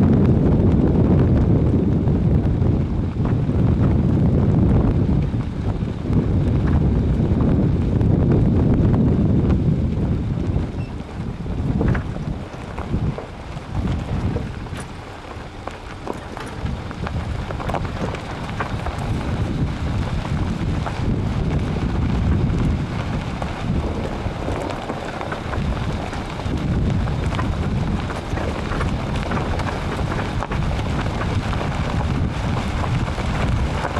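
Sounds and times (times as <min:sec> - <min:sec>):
tyres rumbling on gravel: 0:00.0 - 0:33.9
wind buffeting microphone: 0:00.0 - 0:33.9.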